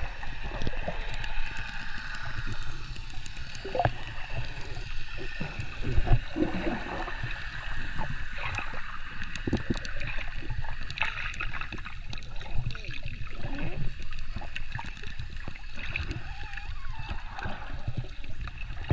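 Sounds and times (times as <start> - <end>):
muffled underwater churning water: 0.0 - 18.9.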